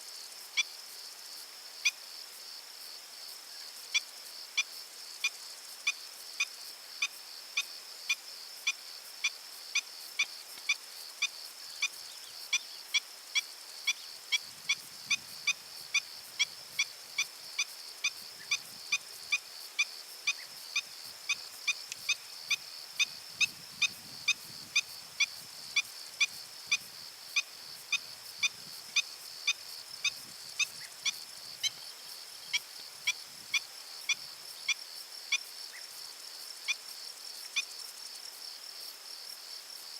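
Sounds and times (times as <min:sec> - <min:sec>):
high insect buzz: 0:00.0 - 0:39.9.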